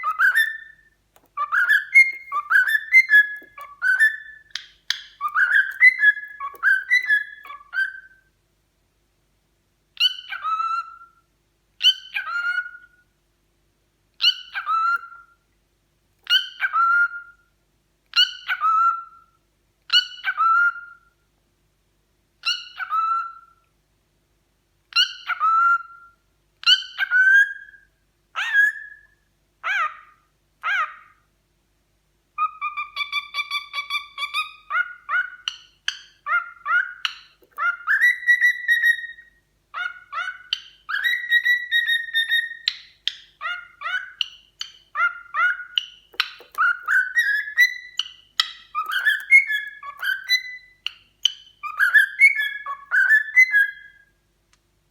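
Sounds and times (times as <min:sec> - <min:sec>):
cockatiel calling: 0:00.0 - 0:08.3, 0:10.0 - 0:11.2, 0:11.8 - 0:13.0, 0:14.2 - 0:15.4, 0:16.2 - 0:17.4, 0:18.1 - 0:19.3, 0:19.9 - 0:21.0, 0:22.4 - 0:23.6, 0:24.9 - 0:31.3, 0:32.4 - 0:54.1.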